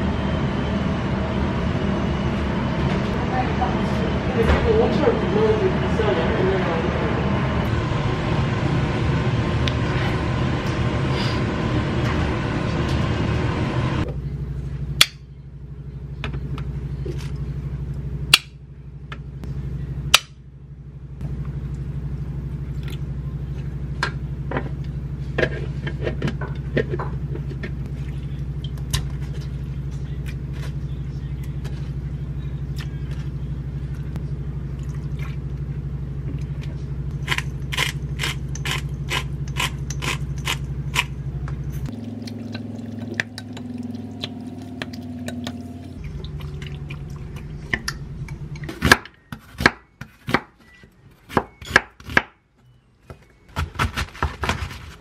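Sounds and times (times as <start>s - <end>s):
low electrical hum: 0.0s - 55.0s
washing machine drone: 0.0s - 55.0s.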